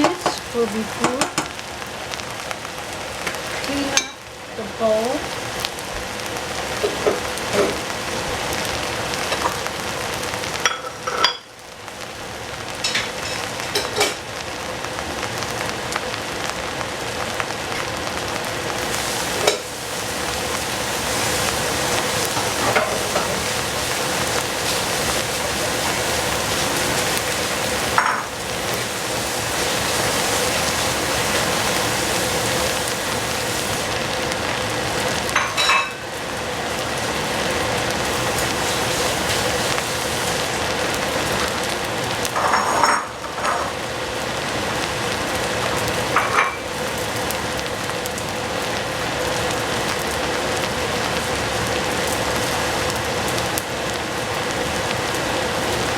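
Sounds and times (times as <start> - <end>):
rice sizzling in a pan: 0.0 - 55.9.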